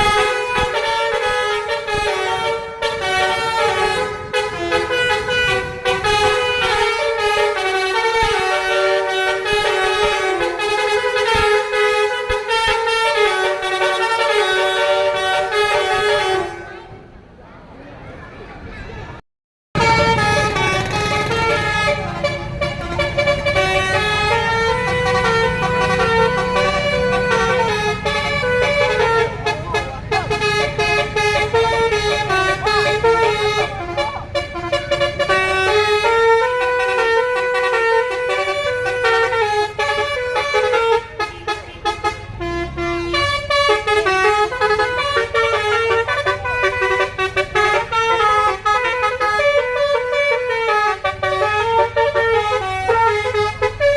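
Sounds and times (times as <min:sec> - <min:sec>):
multi-tone air horn melody: 0:00.0 - 0:17.0, 0:19.8 - 0:53.9
bus engine rumbling: 0:00.0 - 0:19.2, 0:19.8 - 0:53.9.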